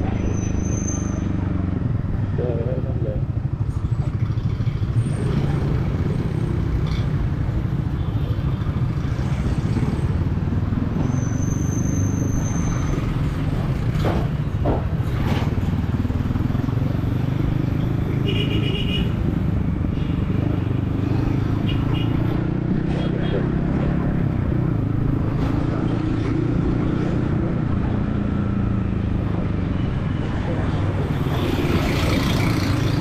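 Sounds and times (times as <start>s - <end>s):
road traffic: 0.0s - 33.0s.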